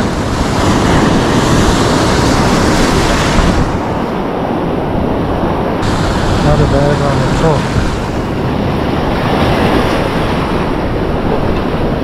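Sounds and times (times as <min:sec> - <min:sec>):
surf washing over rocks: 0:00.0 - 0:12.0
wind on microphone: 0:00.0 - 0:12.0.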